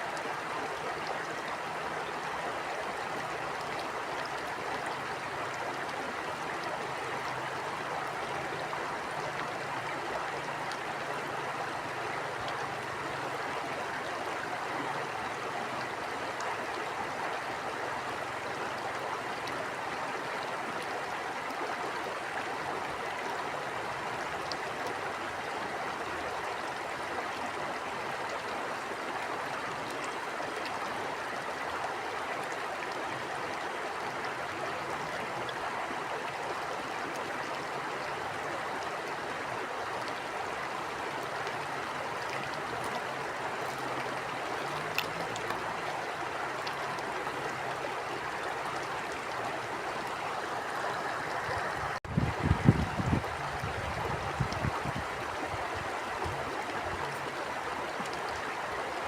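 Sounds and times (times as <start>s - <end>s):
stream water flowing over stones: 0.0s - 59.0s.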